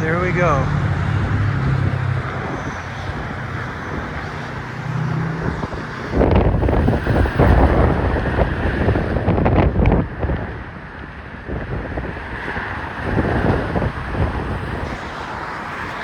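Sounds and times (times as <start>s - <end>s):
low engine hum: 0.0s - 16.0s
traffic noise: 0.0s - 16.0s
wind buffeting microphone: 0.0s - 16.0s.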